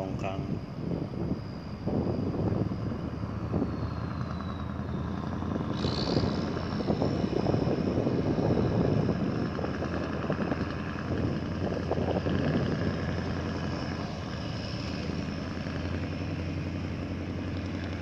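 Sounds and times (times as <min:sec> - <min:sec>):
low machine hum: 0:00.0 - 0:18.0
wind buffeting microphone: 0:00.0 - 0:18.0.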